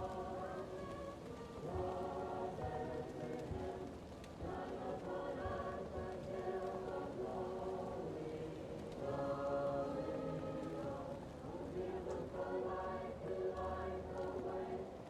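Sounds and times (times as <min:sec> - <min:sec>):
fireplace crackling: 0:00.0 - 0:15.0
muffled choir singing: 0:00.0 - 0:15.0.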